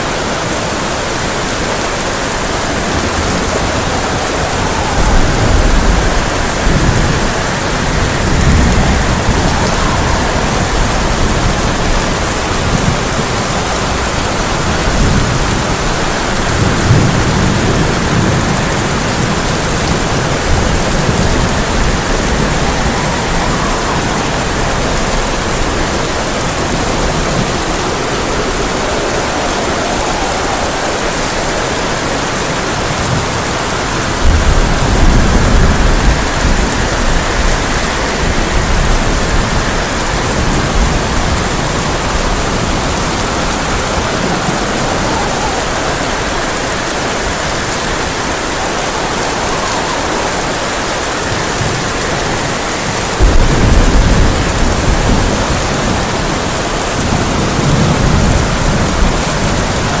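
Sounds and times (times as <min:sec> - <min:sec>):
heavy rain on a tin roof: 0:00.0 - 1:00.0
low thunder rumbles: 0:00.0 - 1:00.0.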